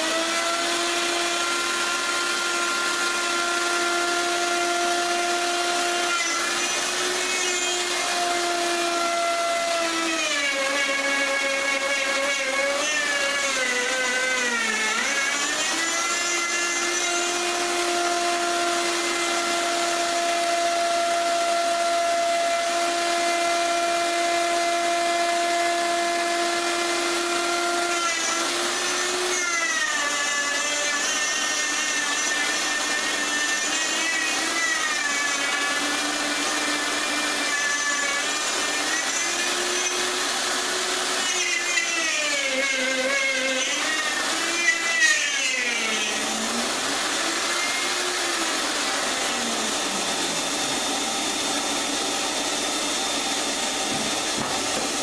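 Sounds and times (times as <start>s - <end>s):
electric power tool motor: 0.0s - 55.0s.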